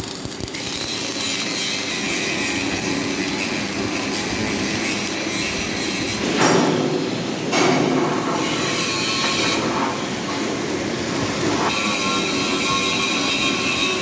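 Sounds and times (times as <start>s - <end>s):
welding arc crackling hiss: 0.0s - 14.0s.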